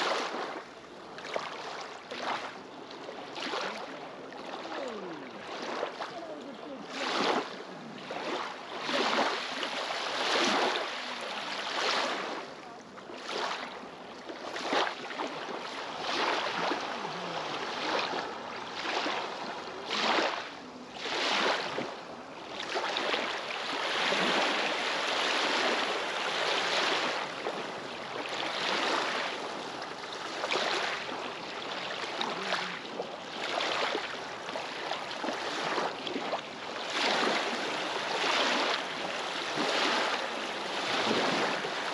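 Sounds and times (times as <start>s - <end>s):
lake waves splashing on pebbles: 0.0s - 41.9s.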